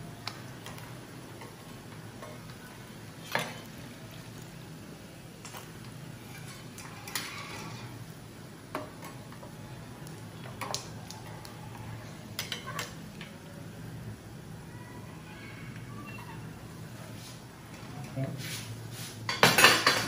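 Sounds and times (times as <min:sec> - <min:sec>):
fish deep-frying in oil: 0:00.0 - 0:18.0.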